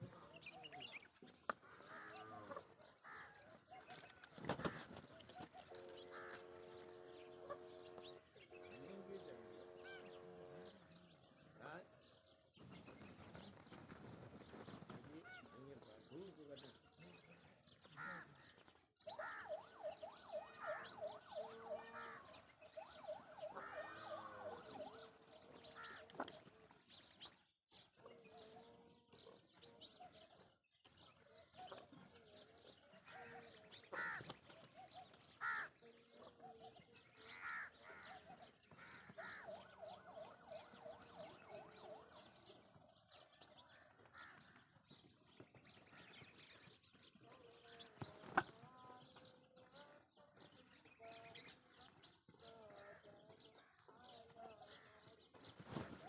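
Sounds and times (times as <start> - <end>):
peafowl and birds calling: 0.0 - 56.0.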